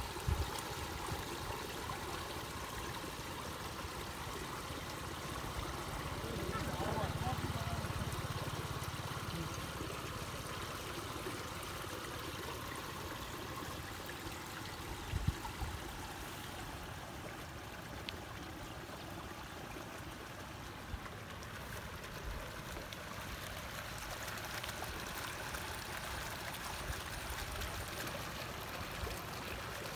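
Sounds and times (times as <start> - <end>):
water running through a ditch: 0.0 - 29.9.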